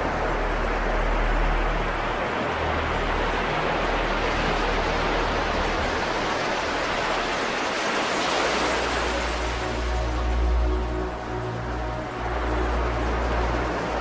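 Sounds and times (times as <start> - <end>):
waves breaking on beach: 0.0 - 14.0.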